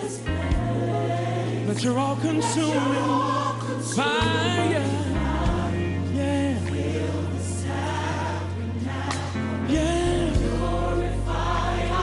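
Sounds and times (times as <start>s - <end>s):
bass line: 0.0s - 12.0s
gospel choir singing: 0.0s - 12.0s.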